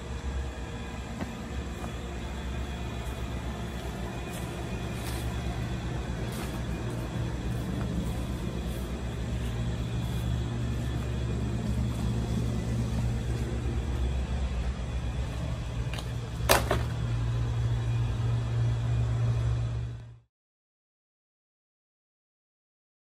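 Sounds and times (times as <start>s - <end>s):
low mechanical hum: 0.0s - 20.3s.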